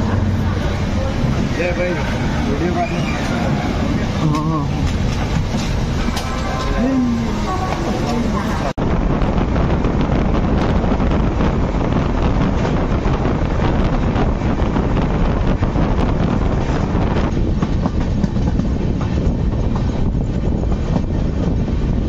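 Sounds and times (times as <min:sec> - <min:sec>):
train wheels rumbling and rattling: 0:00.0 - 0:22.0
wind buffeting microphone: 0:00.0 - 0:22.0.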